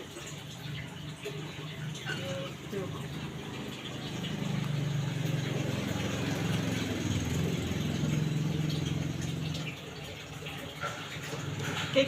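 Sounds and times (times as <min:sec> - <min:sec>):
low engine hum: 0:00.5 - 0:10.6.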